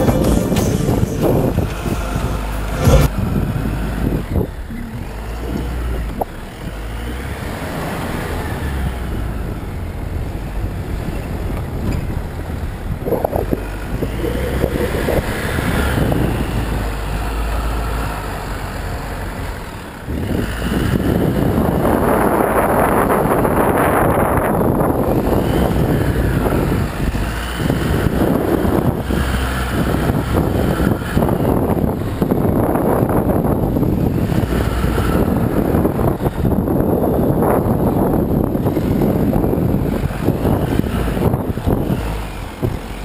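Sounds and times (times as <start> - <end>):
engine running: 0.0 - 43.0
wind rushing over microphone: 0.0 - 43.0.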